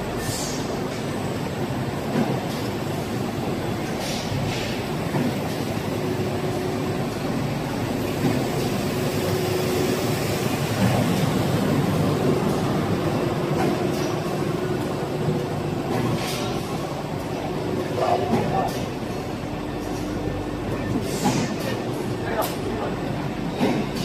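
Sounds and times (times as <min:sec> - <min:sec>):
factory machinery noise: 0:00.0 - 0:24.0.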